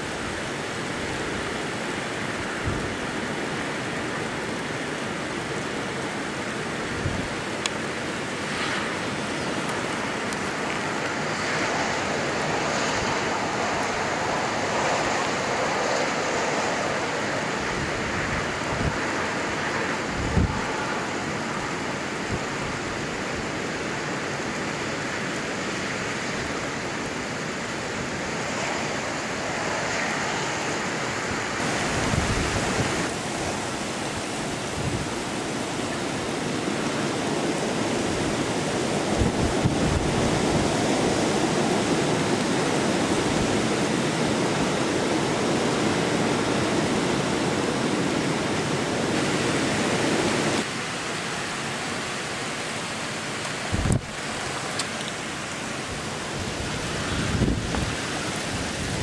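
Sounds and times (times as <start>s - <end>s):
heavy rain: 0.0s - 59.0s
hurricane wind: 0.0s - 59.0s.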